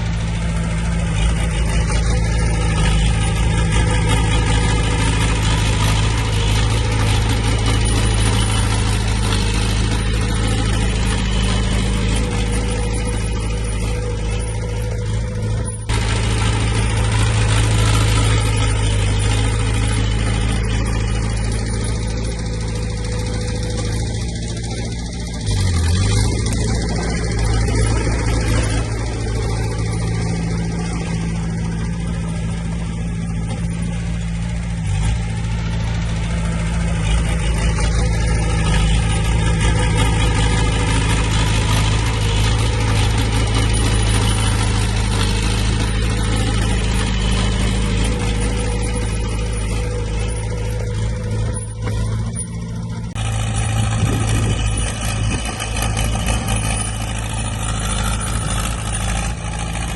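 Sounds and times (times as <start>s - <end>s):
earthmoving machine working: 0.0s - 32.8s, 36.0s - 59.9s
heavy diesel engine running: 0.0s - 59.9s.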